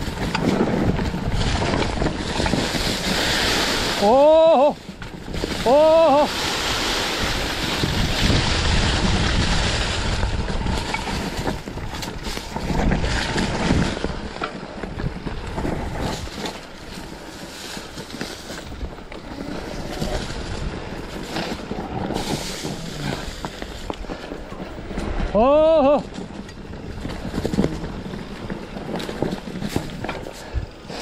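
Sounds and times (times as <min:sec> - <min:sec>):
bike knocks and rattles: 0:00.0 - 0:06.2, 0:07.1 - 0:31.0
tyres rumbling over dirt: 0:00.0 - 0:31.0
wind buffeting microphone: 0:00.0 - 0:31.0.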